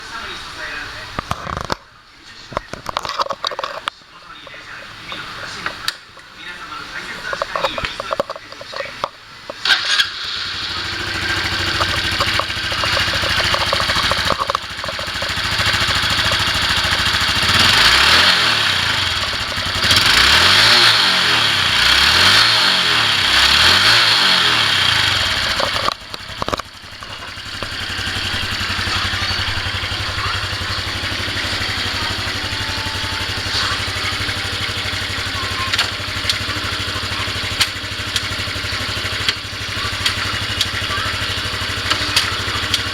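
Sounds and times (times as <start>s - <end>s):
motorcycle engine revving and idling: 7.0s - 42.9s.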